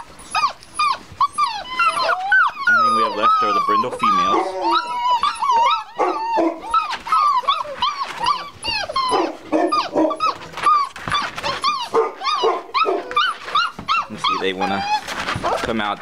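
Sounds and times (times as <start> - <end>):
puppies whining and yelping: 0.0 - 16.0.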